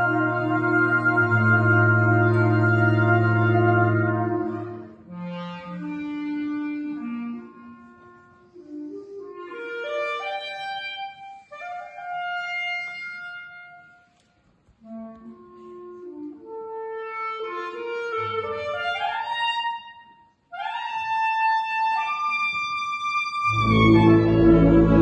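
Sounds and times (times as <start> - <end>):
solo clarinet melody: 0.0 - 25.0.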